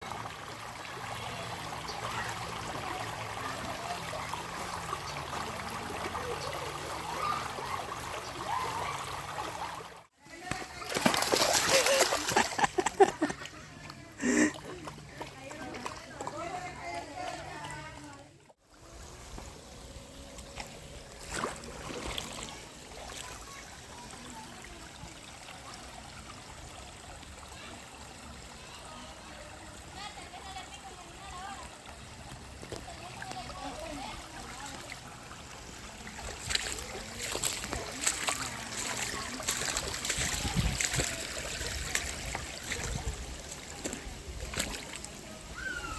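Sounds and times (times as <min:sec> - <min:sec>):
river water gurgling: 0:00.0 - 0:45.9.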